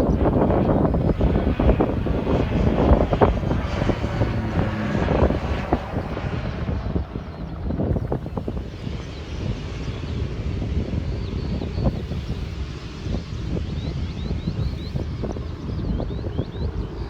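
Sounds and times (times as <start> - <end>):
aircraft engine roaring: 0.0 - 17.0.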